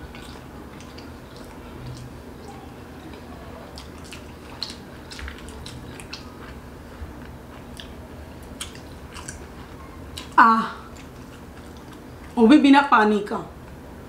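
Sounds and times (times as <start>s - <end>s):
wet squishy chewing: 0.0s - 12.4s.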